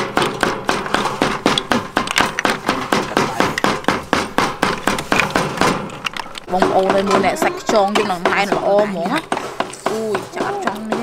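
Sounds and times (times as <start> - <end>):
rapid ringing knocks: 0.0 - 11.0.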